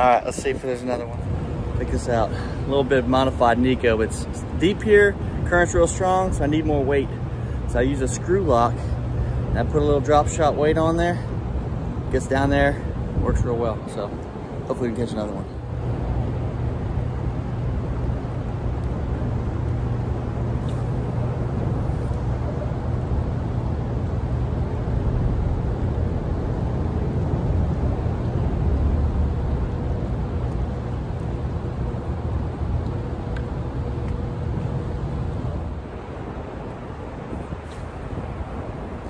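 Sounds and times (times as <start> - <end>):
faint steady hum: 0.0 - 39.0
water current and wind rumble: 0.0 - 39.0.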